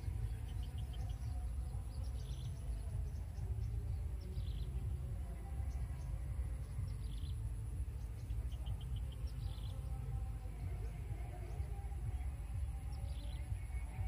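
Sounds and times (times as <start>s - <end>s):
faint bird chirps: 0.0s - 14.0s
steady low rumble: 0.0s - 14.0s.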